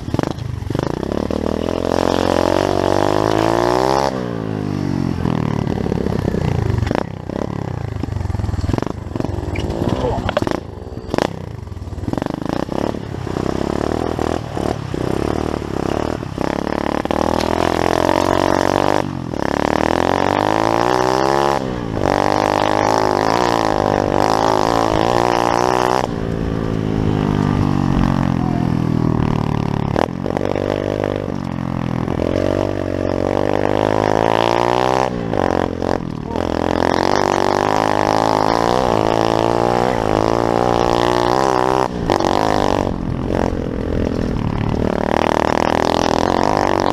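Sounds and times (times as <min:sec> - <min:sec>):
pit bike engine revving: 0:00.0 - 0:46.9.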